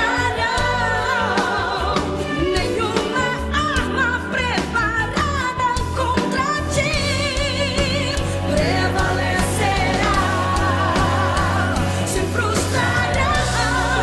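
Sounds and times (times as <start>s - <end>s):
band with bass and drums: 0.0s - 14.0s
person singing with vibrato: 0.0s - 14.0s.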